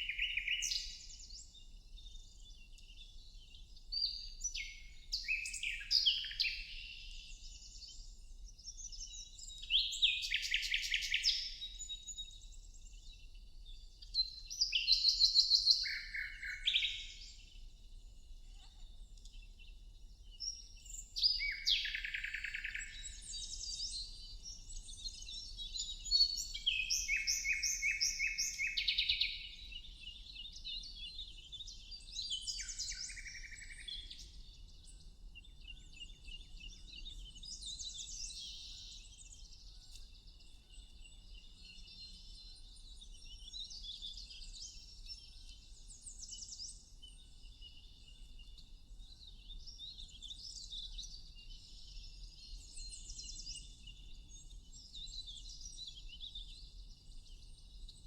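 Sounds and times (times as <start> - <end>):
songbirds singing and chirping: 0.0 - 58.0.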